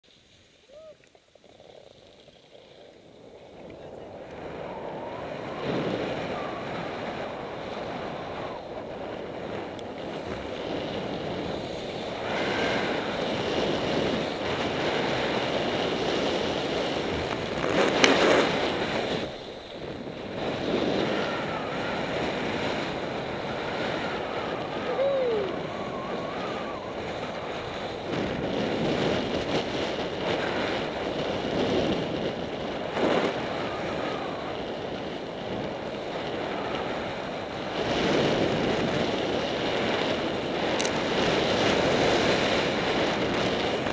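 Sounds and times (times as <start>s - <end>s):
skis scraping over snow: 0.1s - 43.9s
wind buffeting microphone: 0.7s - 43.9s.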